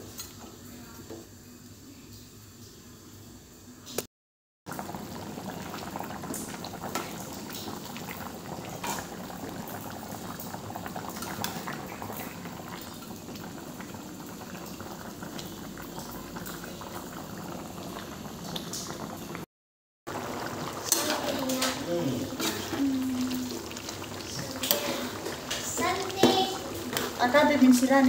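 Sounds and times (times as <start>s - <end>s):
curry boiling and bubbling: 4.7s - 19.5s, 20.1s - 28.0s.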